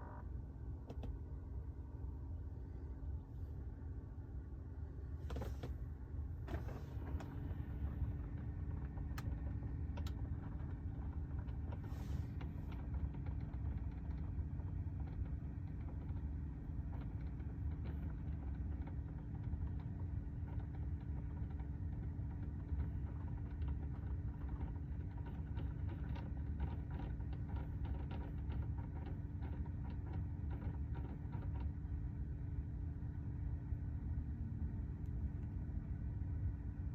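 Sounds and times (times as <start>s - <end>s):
air conditioning rumble and hum: 0.0s - 36.9s.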